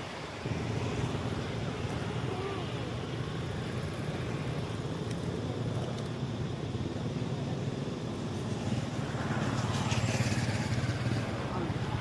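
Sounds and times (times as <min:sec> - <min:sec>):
vehicle engine rumble: 0:00.1 - 0:12.0.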